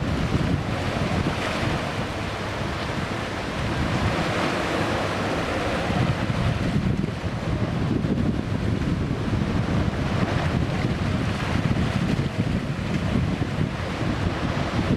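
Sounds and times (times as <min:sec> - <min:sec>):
waves washing over stones: 0:00.0 - 0:14.9
wind rumble on microphone: 0:00.0 - 0:14.9.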